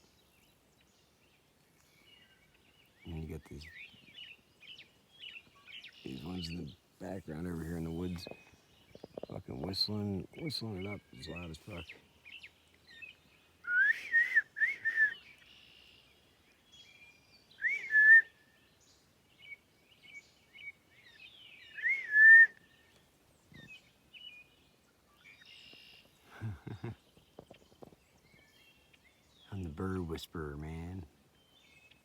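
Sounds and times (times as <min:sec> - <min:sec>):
faint bird chirps: 0:00.0 - 0:32.0.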